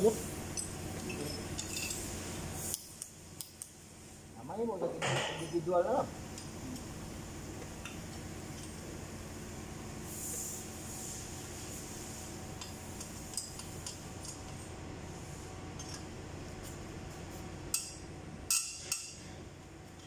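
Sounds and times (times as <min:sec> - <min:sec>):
background hum: 0:00.0 - 0:20.0.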